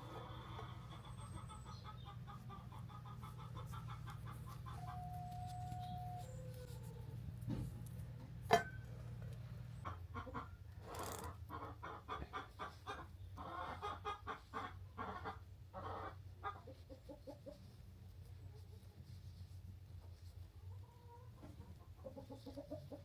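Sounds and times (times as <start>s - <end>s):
chickens clucking: 0.0s - 17.7s, 20.5s - 23.0s.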